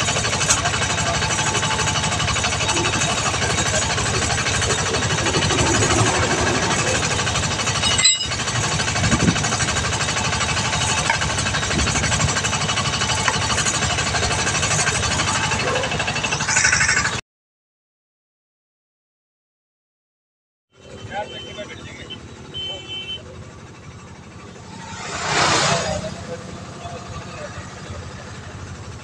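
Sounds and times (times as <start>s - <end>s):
diesel engine clattering: 0.0s - 17.2s, 20.8s - 29.0s.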